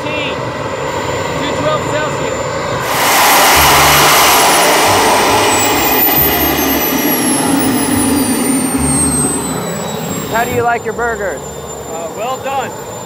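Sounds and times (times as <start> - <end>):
jet turbine whine and rushing: 0.0 - 13.0.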